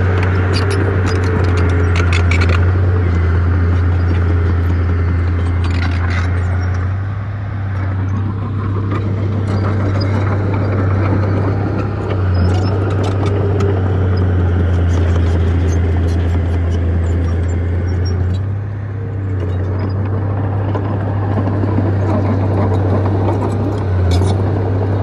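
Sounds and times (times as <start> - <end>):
heavy diesel machinery droning: 0.0 - 25.0.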